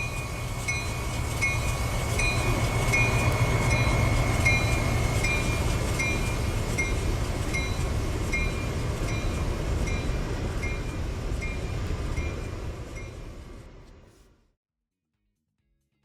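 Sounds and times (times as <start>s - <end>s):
train rumbling: 0.0s - 14.4s.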